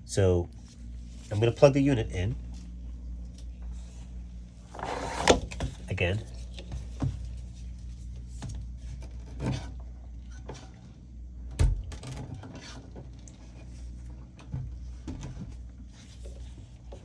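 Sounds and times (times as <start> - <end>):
beverage cooler humming: 0.0 - 17.0.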